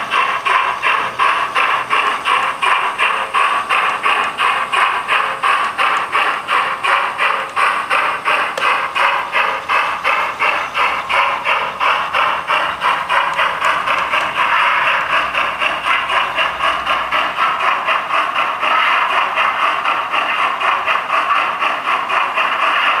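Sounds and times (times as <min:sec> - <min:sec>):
model train clattering on track: 0:00.0 - 0:23.0.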